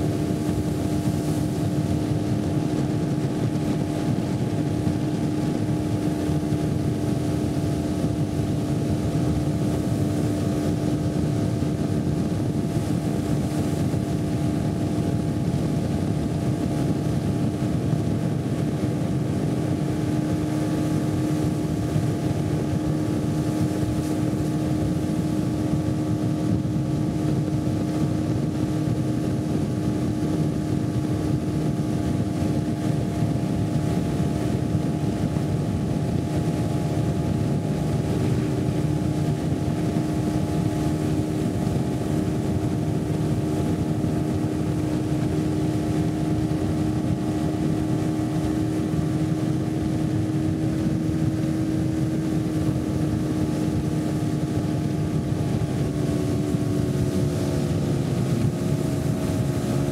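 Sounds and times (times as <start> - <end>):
motorboat engine droning: 0.0 - 59.9.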